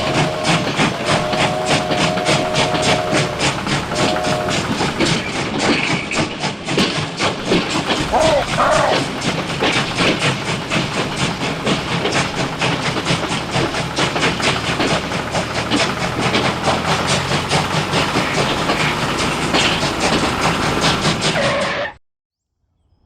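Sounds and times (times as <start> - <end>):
motor hum: 0.0 - 6.0, 7.2 - 21.5
mechanical clatter: 0.0 - 21.9.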